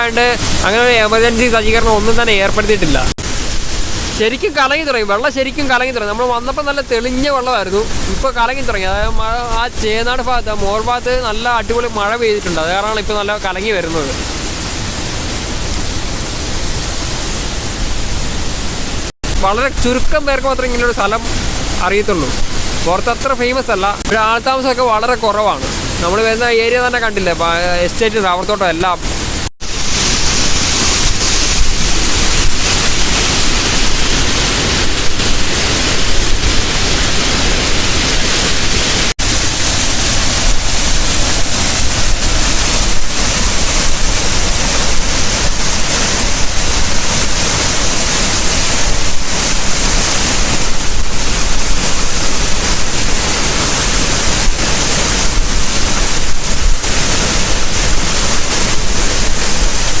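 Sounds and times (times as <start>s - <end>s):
waterfall rushing: 0.0s - 60.0s.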